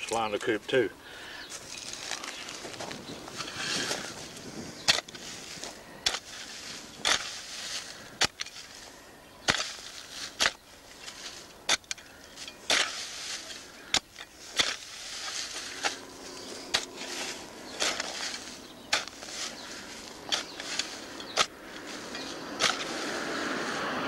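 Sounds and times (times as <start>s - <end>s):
scraping and crackling of soil: 0.0s - 24.0s
knocks and crunches on dry ground: 1.4s - 24.0s.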